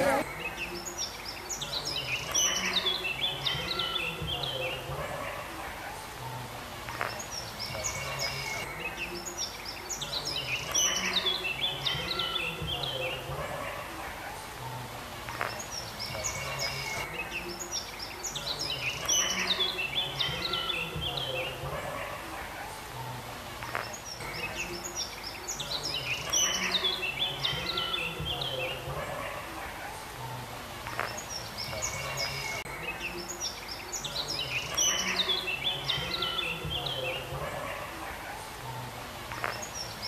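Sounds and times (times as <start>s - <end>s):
low background noise: 0.0s - 40.0s
small birds chirping and singing: 0.0s - 40.0s.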